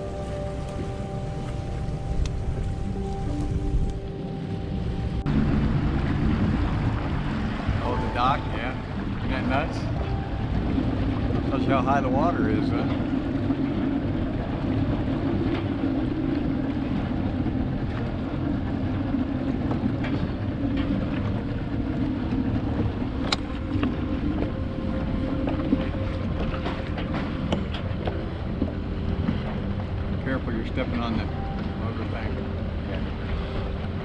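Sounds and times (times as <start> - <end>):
outboard motor idling: 0.0 - 34.0
wind buffeting microphone: 0.0 - 34.0.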